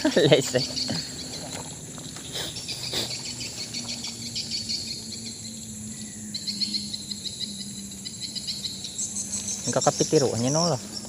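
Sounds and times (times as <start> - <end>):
insects chirping: 0.0 - 11.0
steady high buzz: 0.0 - 11.0.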